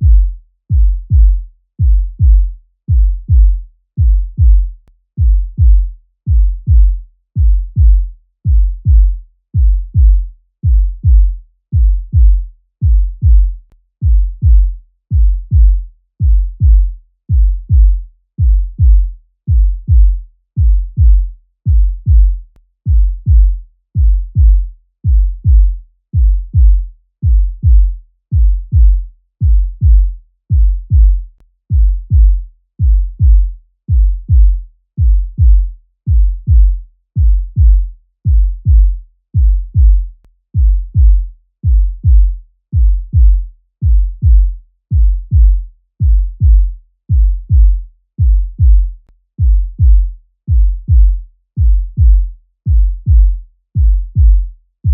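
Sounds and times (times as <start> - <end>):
heartbeat thumps: 0.0 - 54.9.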